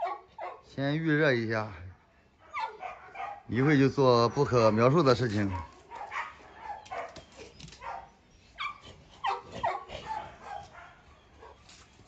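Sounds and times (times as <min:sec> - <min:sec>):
dogs yelping and barking: 0:00.0 - 0:00.7, 0:02.4 - 0:12.0.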